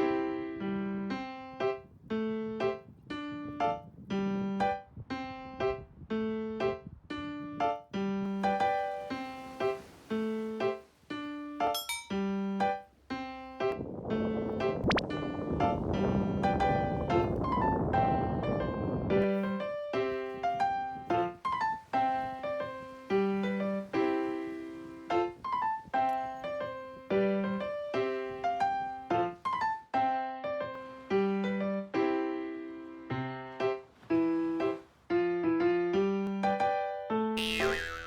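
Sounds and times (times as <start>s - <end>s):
light electric piano tune: 0.0s - 38.0s.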